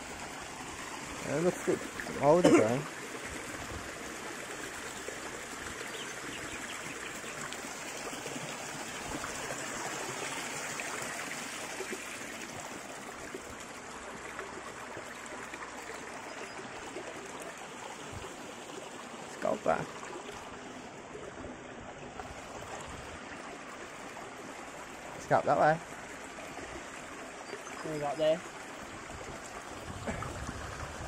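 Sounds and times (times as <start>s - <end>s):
creek water trickling over rocks: 0.0s - 31.0s.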